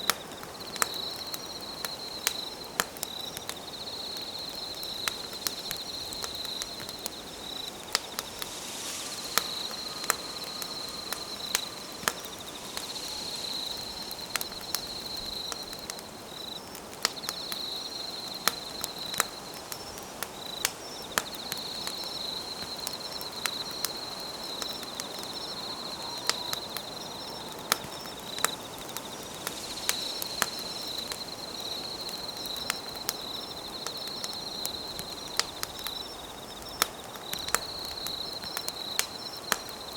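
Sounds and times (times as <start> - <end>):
campfire crackling and popping: 0.0 - 39.9
night insects trilling: 0.0 - 39.9.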